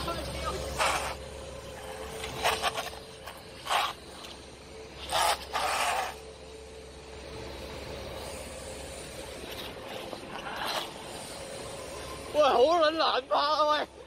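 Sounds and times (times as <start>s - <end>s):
rc car motors whirring: 0.0s - 14.0s.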